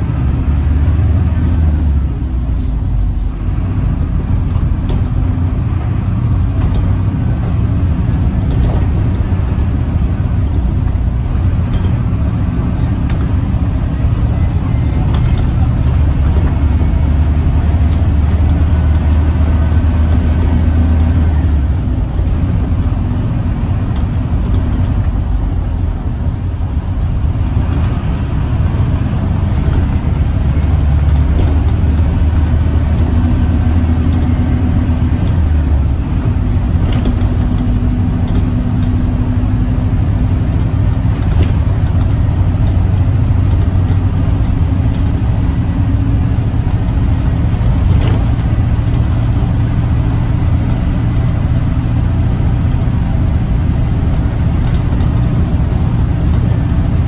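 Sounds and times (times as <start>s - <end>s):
diesel engine drone: 0.0s - 57.0s
road and tyre noise: 0.0s - 57.0s.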